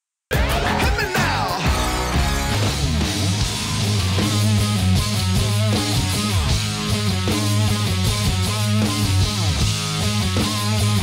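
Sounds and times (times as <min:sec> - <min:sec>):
rock music with electric guitar: 0:00.3 - 0:11.0.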